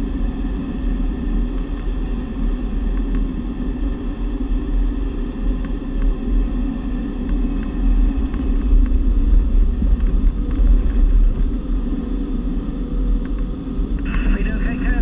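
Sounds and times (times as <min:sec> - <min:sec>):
glider cockpit airflow rumble: 0:00.0 - 0:15.0.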